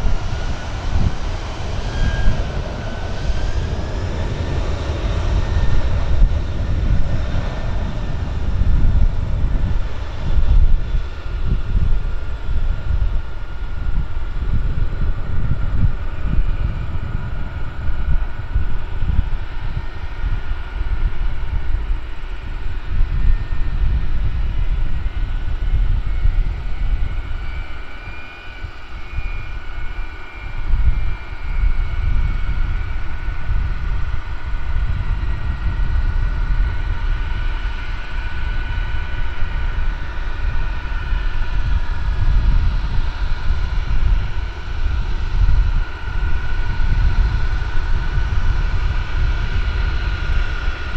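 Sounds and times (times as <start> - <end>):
jet engines roaring at takeoff: 0.0 - 50.9.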